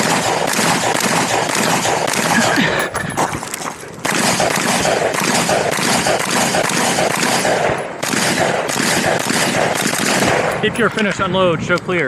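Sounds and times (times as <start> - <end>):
rifle shots with echo: 0.0 - 2.7, 3.4 - 11.2.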